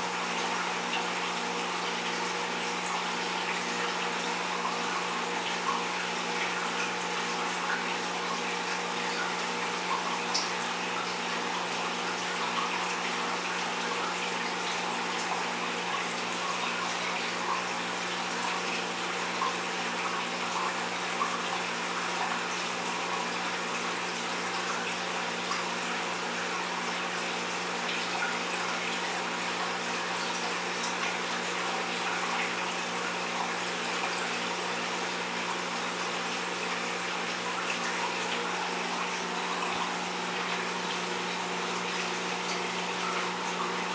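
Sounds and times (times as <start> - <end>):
water rushing and trickling: 0.0 - 43.9.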